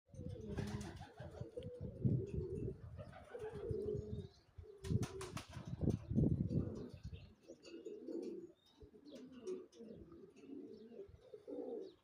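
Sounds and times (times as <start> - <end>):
pigeons cooing: 0.1 - 12.0.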